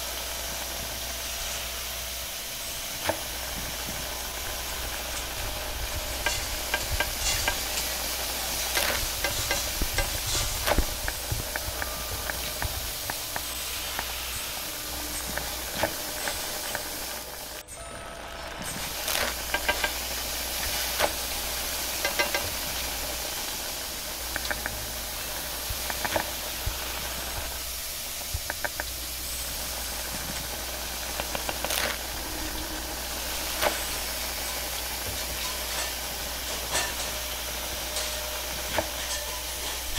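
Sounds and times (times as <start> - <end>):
wok hissing and sizzling: 0.0 - 39.9
metal utensil scraping wok: 2.6 - 17.7, 18.7 - 39.9.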